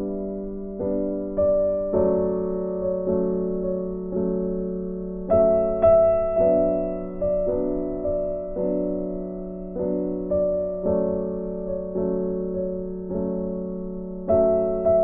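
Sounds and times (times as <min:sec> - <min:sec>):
slow gentle piano chords: 0:00.0 - 0:15.0.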